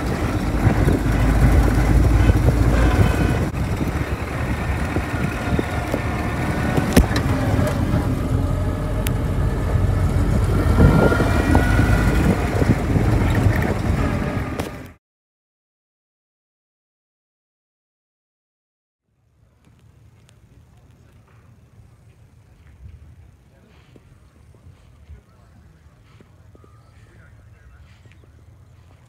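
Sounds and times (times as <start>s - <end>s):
tyres on gravel track: 0.0s - 15.0s, 19.2s - 29.0s
vehicle engine running: 0.0s - 15.0s, 19.2s - 29.0s.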